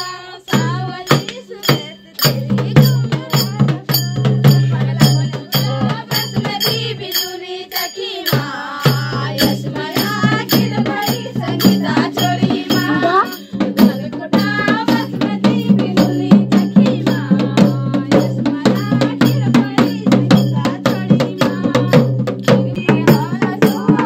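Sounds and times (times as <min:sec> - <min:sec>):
group singing folk song: 0:00.0 - 0:03.3, 0:04.6 - 0:24.0
hand percussion beat: 0:00.0 - 0:24.0.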